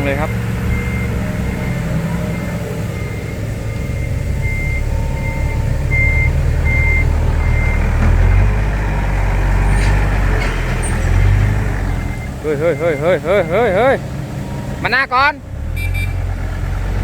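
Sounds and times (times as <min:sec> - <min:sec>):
reversing alarm beeping: 0:00.0 - 0:08.6, 0:09.7 - 0:17.0
heavy diesel engine running: 0:00.0 - 0:17.0.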